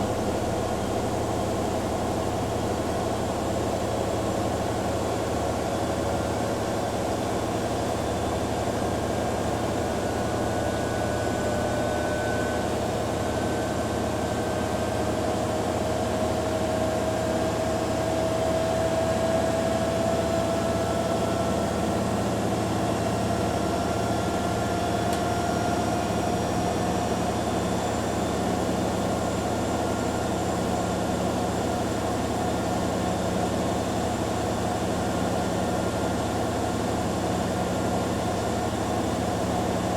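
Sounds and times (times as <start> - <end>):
washing machines spinning: 0.0 - 39.9.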